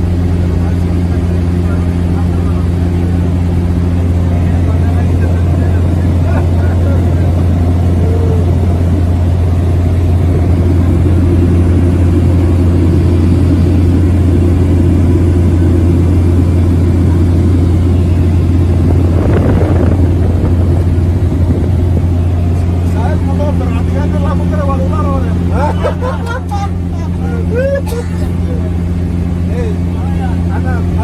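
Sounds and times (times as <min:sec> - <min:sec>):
propeller plane engine drone: 0:00.0 - 0:31.0.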